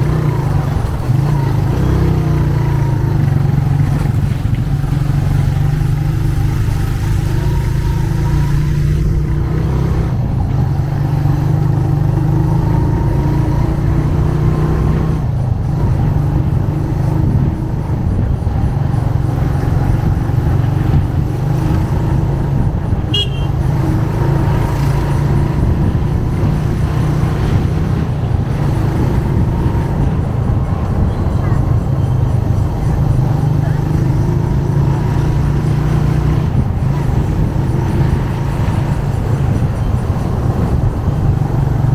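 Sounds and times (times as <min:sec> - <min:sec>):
motorcycle engine running: 0:00.0 - 0:41.9
road and traffic noise: 0:00.0 - 0:41.9.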